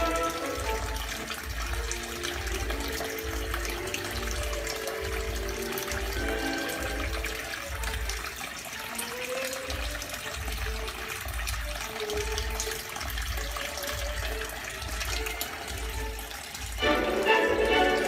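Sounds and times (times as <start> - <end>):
faint music with soft beat: 0.0 - 18.0
water trickling and splattering: 0.0 - 18.0.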